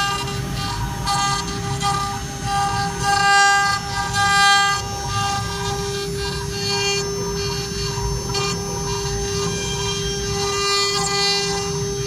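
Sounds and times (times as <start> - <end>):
motors whining in changing pitch: 0.0 - 12.0
router spindle whine: 0.0 - 12.0.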